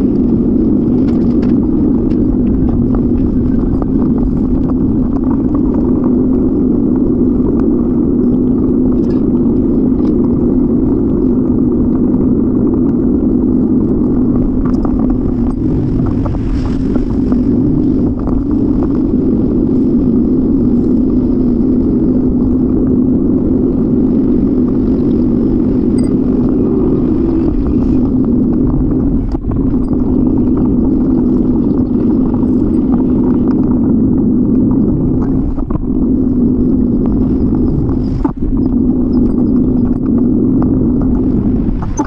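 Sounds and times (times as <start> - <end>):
wind and road noise: 0.0 - 42.0.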